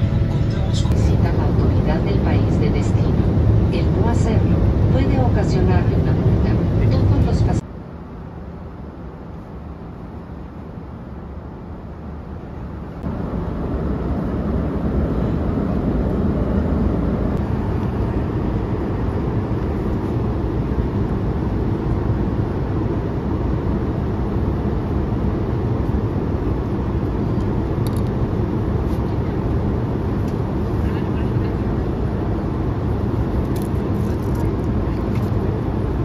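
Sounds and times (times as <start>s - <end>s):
airliner cabin noise: 0.0s - 36.0s.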